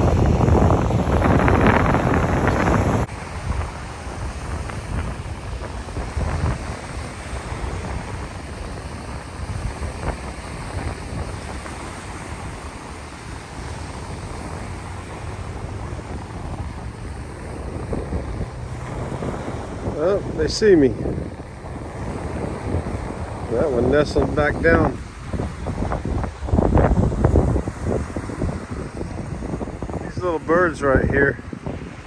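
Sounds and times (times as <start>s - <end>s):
surf breaking on beach: 0.0s - 32.0s
wind buffeting microphone: 0.0s - 32.0s.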